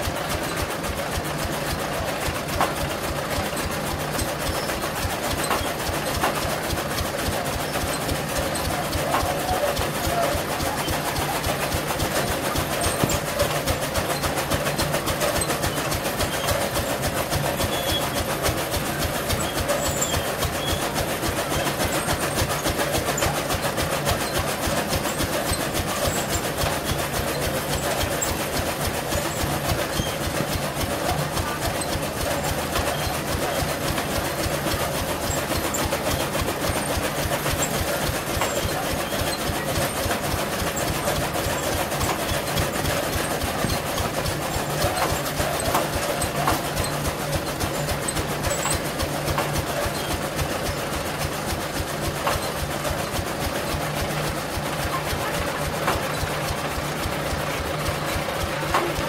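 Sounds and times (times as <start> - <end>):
chaff cutter blades chopping: 2.4 - 59.0.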